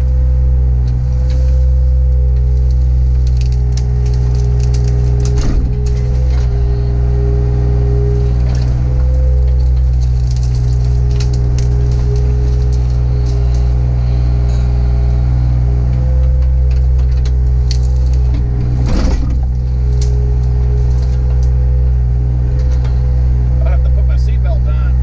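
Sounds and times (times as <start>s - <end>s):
branches cracking: 0.0s - 23.6s
excavator engine running: 0.0s - 25.0s.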